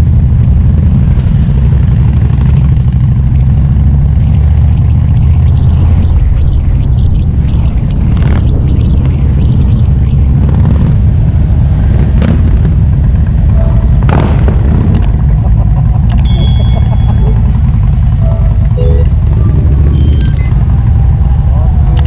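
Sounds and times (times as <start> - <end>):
motorcycle engine rumbling: 0.1 - 22.0.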